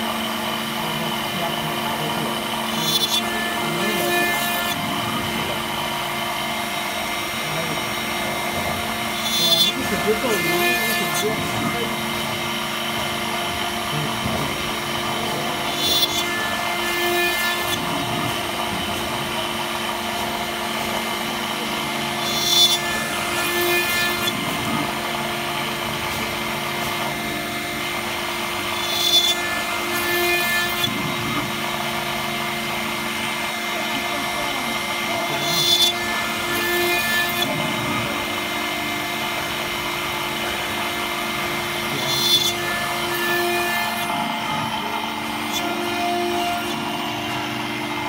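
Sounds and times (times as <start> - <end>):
router spindle milling metal: 0.0 - 48.0
sharp cutting bursts: 0.0 - 48.0.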